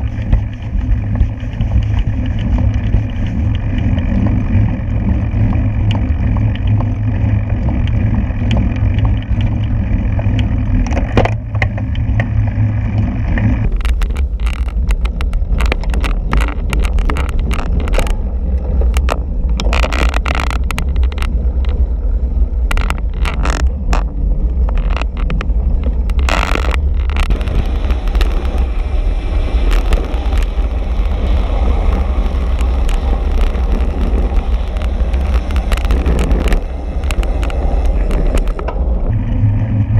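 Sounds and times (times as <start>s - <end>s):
bicycle tyres on tarmac: 0.0s - 39.9s
sharp clicks and rattles: 0.0s - 39.9s
wind on microphone: 0.0s - 39.9s.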